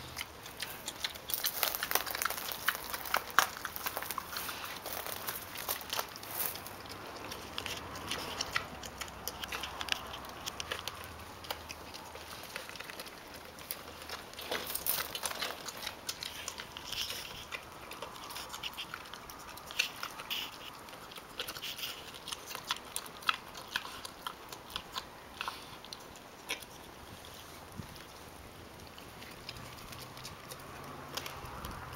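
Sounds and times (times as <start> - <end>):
pig chewing and crunching: 0.0 - 31.9.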